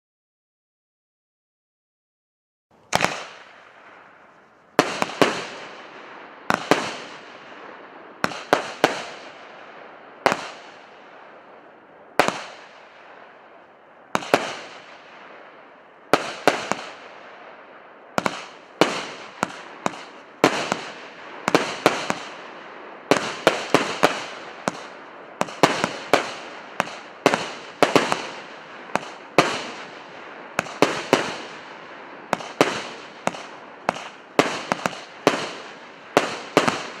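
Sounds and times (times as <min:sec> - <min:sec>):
firework bangs with hiss: 0:02.8 - 0:11.2, 0:12.2 - 0:13.4, 0:14.1 - 0:15.4, 0:16.1 - 0:17.4, 0:18.1 - 0:37.0.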